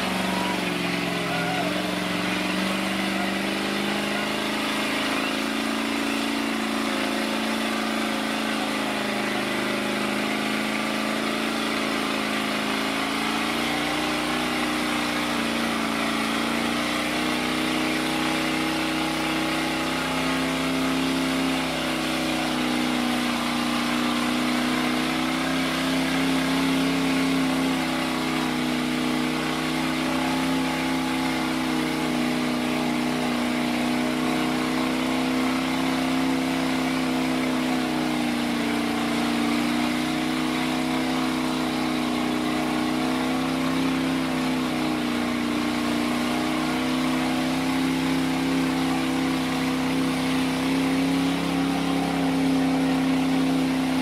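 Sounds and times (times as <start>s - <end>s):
truck engine running hard: 0.0s - 54.0s.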